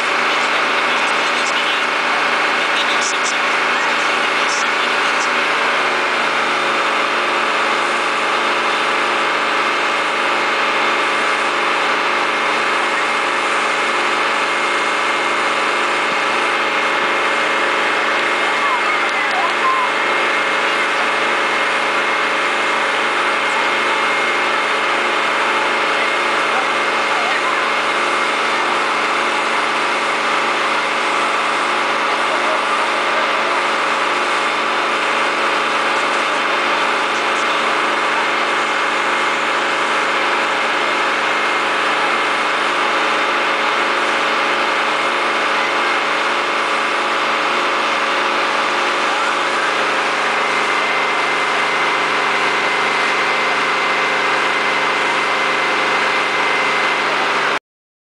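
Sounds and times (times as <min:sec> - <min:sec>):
fire engine running pump: 0:00.0 - 0:57.6.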